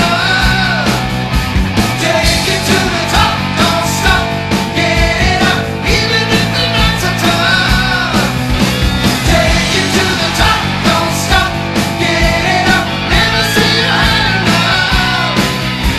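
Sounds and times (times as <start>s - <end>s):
drum strikes: 0.0s - 15.9s
heavy metal rock music: 0.0s - 15.9s
pitch-bending lead guitar line: 0.0s - 15.9s.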